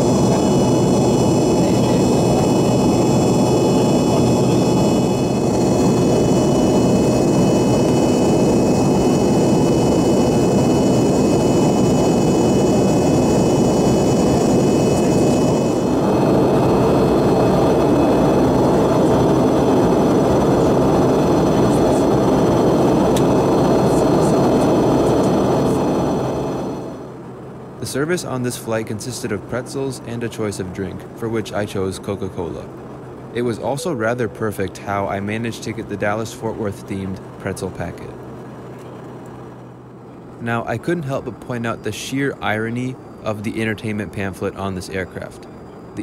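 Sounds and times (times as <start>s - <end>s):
high steady whining tones: 0.0s - 28.0s, 28.6s - 46.0s
jet engine roar in cabin: 0.0s - 46.0s.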